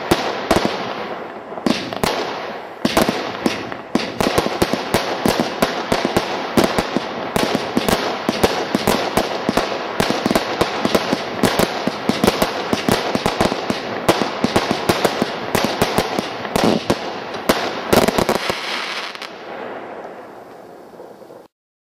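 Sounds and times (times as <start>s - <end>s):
fireworks bangs and crackles: 0.0s - 21.5s.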